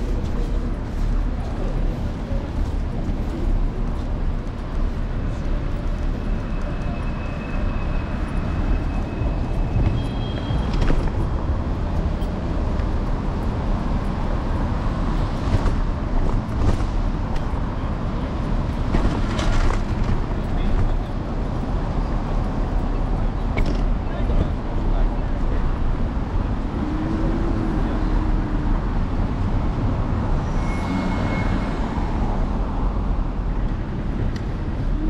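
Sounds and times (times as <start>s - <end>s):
street traffic noise: 0.0s - 35.0s.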